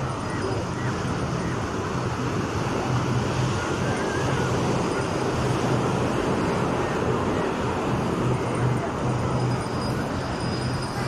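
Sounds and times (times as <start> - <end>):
faint voices: 0.0 - 11.0
low rumble of distant traffic: 0.0 - 11.0
wind or surf: 0.0 - 11.0.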